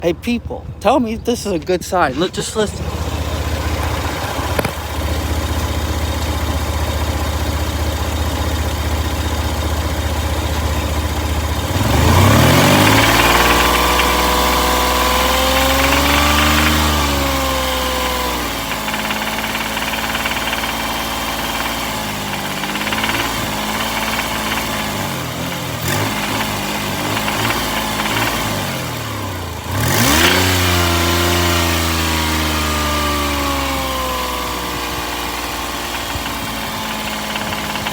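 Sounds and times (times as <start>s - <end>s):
car engine idling and revving: 0.0s - 37.9s
engine knocking rattle: 2.8s - 37.9s.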